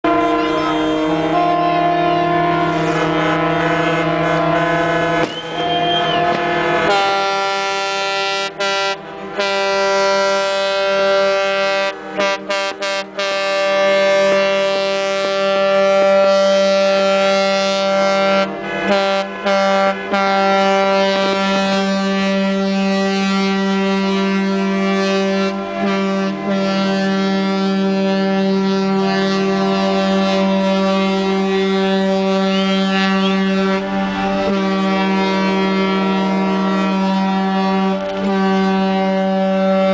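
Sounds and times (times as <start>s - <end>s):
deep ship horns blasting: 0.0s - 39.9s.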